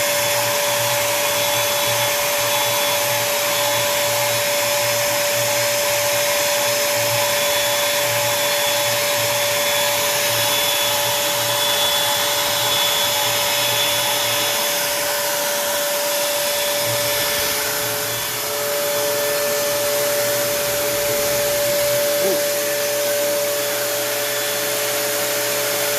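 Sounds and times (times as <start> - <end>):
router spindle whining: 0.0 - 25.9.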